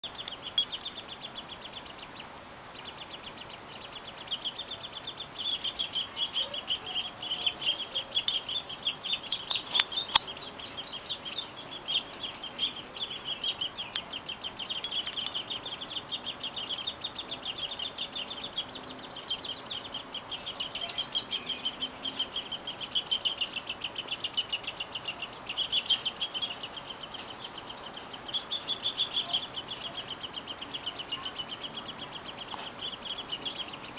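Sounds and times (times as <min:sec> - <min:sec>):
nestlings begging chatter: 0:00.0 - 0:33.9.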